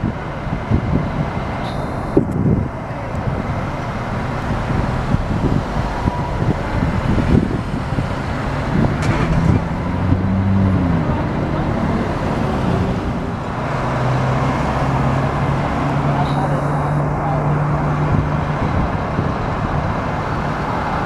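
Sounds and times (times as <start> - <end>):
low engine hum: 0.0 - 21.0
traffic rumble: 0.0 - 21.0.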